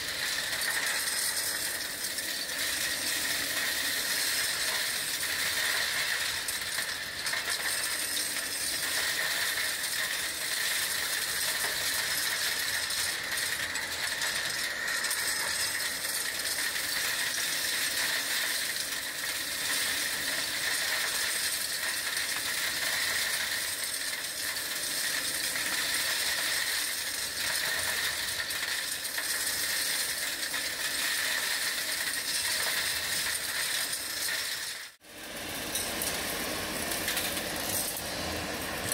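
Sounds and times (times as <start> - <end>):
stones rattling through hose: 0.0 - 35.0.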